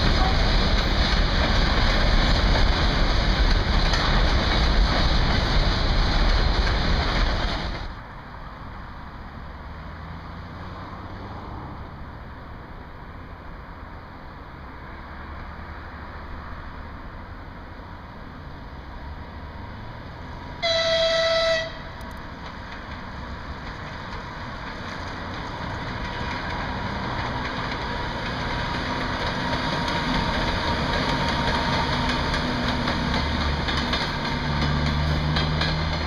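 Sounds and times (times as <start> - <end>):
freight train wheels rumbling: 0.0 - 9.6, 11.6 - 36.0
distant freight train rumble: 0.0 - 36.0.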